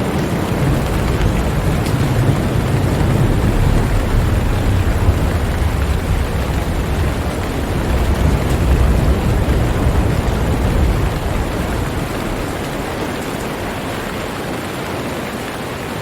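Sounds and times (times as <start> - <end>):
low rumble of thunder: 0.0 - 14.5
steady rain hiss: 0.0 - 16.0.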